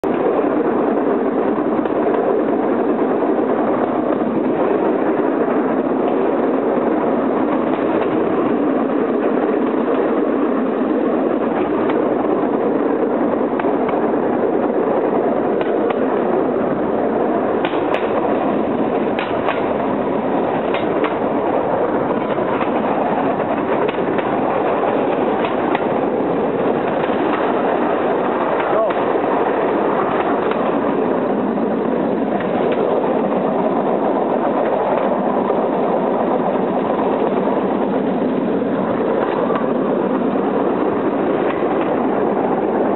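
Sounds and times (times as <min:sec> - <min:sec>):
rail cart running on track: 0:00.0 - 0:42.9.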